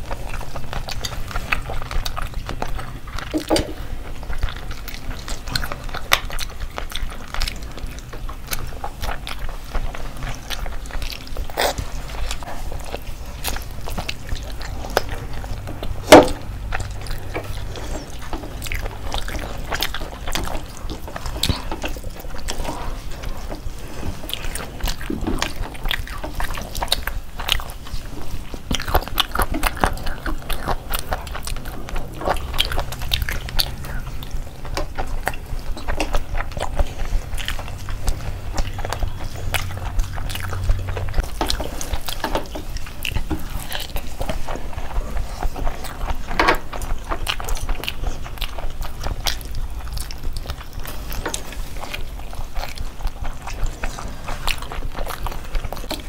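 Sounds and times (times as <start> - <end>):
people chewing food: 0.0 - 56.0.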